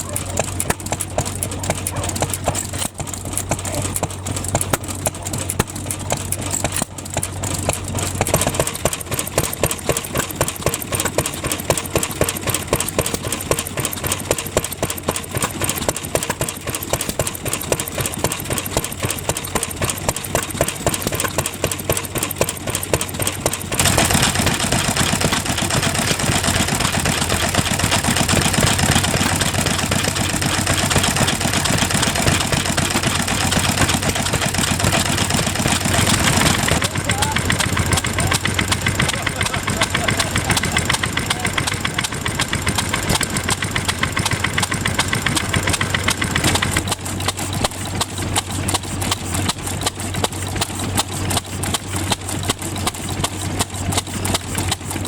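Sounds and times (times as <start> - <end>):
stationary engines running: 0.0 - 55.0.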